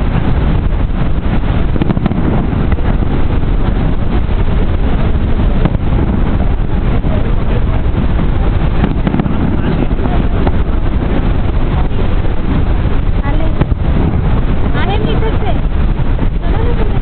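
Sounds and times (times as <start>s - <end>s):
fireworks popping: 0.0s - 17.0s
wind buffeting microphone: 0.0s - 17.0s.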